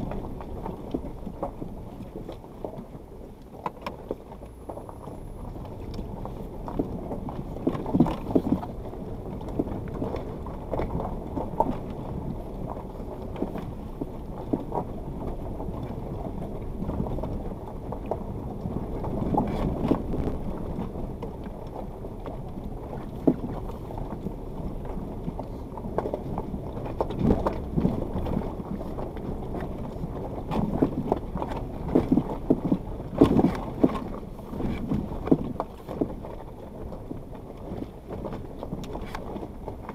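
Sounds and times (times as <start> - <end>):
low rumble of engine and tyres: 0.0 - 39.9
stones crunching under wheels: 0.0 - 39.9.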